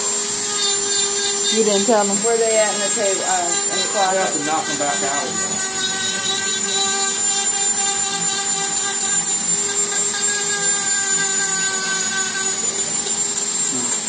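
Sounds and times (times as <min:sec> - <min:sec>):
motor humming: 0:00.0 - 0:14.0
steady tones: 0:00.0 - 0:14.0.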